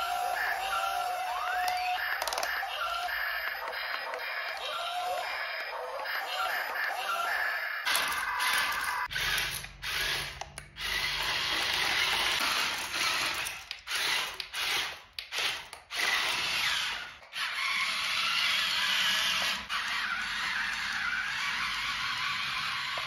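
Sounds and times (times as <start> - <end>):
small electric motors whirring: 0.0 - 23.0.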